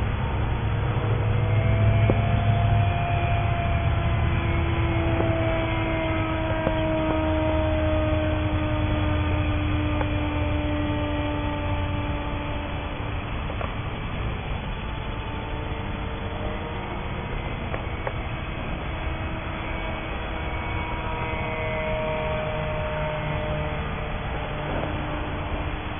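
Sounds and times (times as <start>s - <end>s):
model plane motor whining: 0.0s - 25.9s
steady low hum: 0.0s - 25.9s.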